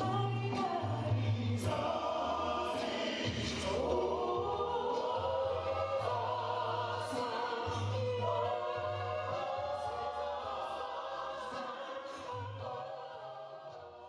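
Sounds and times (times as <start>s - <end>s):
choir singing church music: 0.0s - 14.0s.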